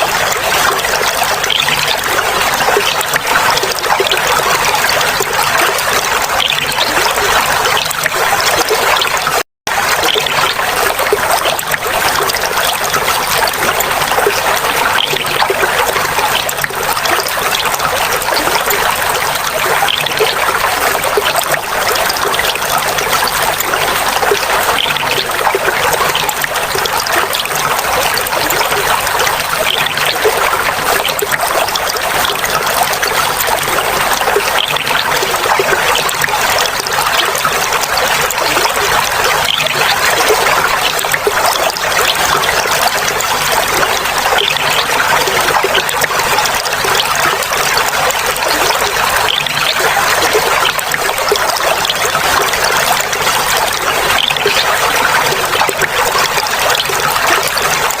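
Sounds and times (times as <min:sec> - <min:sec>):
water flowing and trickling: 0:00.0 - 0:58.0.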